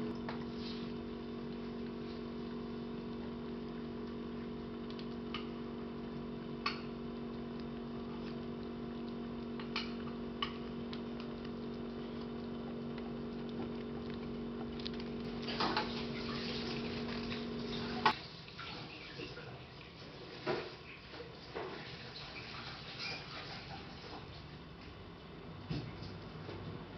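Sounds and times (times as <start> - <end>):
electrical motor hum: 0.0 - 26.9.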